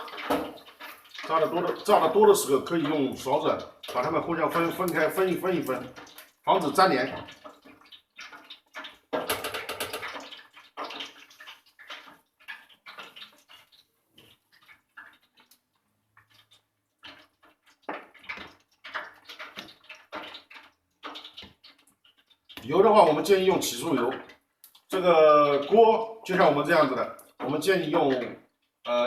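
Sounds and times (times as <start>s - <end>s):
spoon stirring in oil: 0.0s - 28.9s
chicken sizzling in hot oil: 0.0s - 29.0s.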